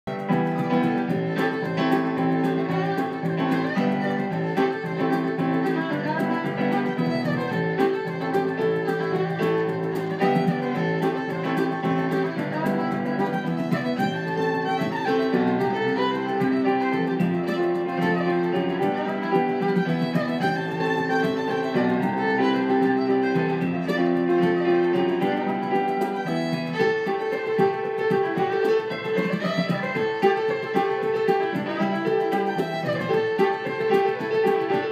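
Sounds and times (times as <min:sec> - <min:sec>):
fiddle: 0:00.0 - 0:34.9
stage piano: 0:00.0 - 0:34.9.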